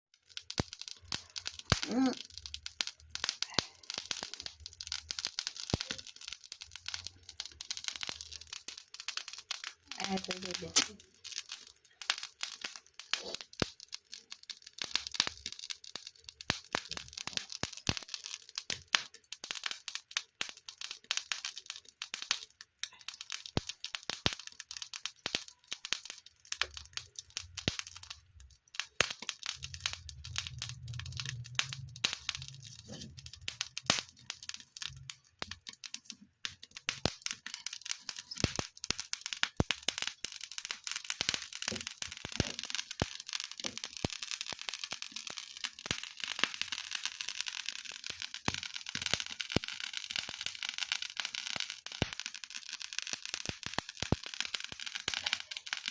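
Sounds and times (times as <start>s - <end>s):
fire crackling and popping: 0.1s - 55.9s.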